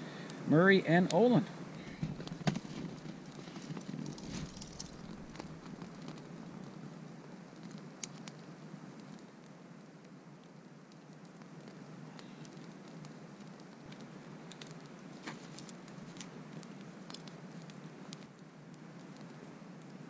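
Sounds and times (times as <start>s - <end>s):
campfire crackling and popping: 0.0s - 20.0s
steady low background noise: 0.0s - 20.0s.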